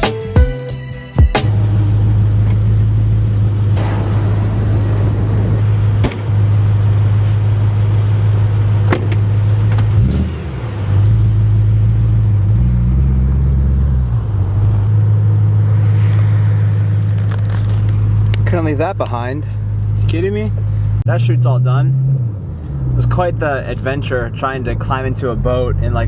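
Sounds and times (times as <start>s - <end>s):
car engine droning: 1.4s - 26.0s.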